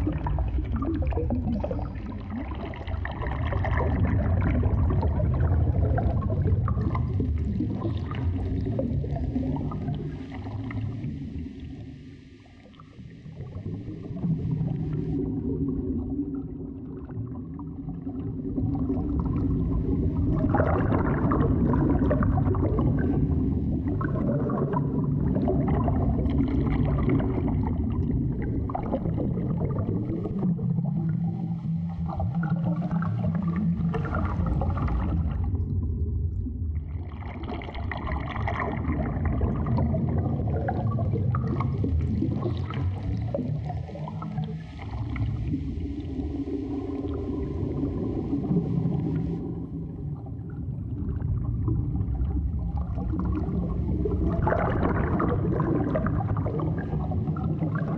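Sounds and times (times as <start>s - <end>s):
gurgling water: 0.0s - 57.9s
underwater low rumble: 0.0s - 57.9s.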